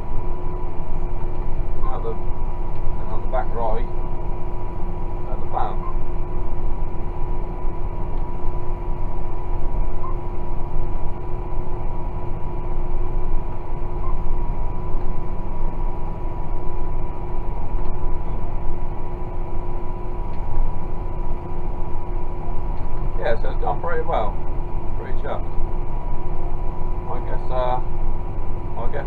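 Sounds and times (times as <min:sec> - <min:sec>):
diesel tractor engine drone: 0:00.0 - 0:29.0
steady whining tones: 0:00.0 - 0:29.0.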